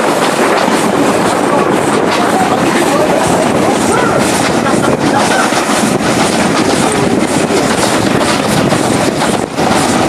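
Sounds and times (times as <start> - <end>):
train carriage rumbling and rattling: 0.0 - 10.0.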